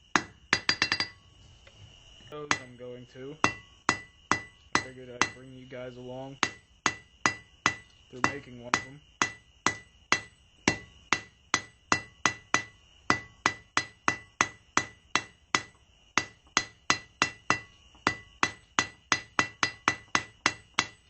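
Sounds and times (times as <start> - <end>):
hammer striking steel on anvil: 0.1 - 1.2, 2.4 - 2.8, 3.4 - 5.5, 6.4 - 21.0.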